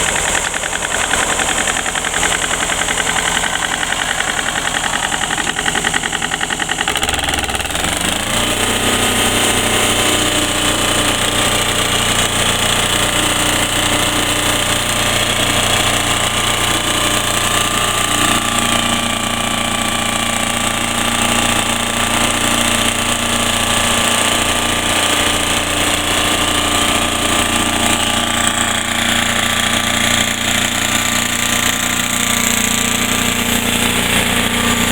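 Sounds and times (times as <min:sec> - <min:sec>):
band sawmill running: 0:00.0 - 0:34.9.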